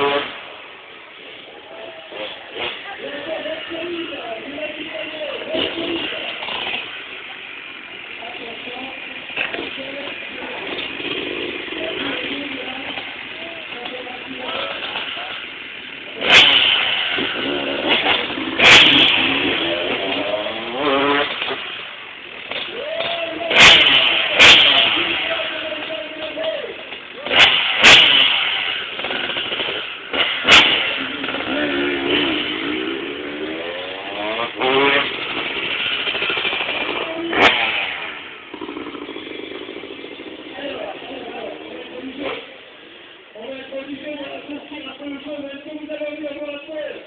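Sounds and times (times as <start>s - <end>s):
motocross bike engine revving: 0.0s - 47.0s.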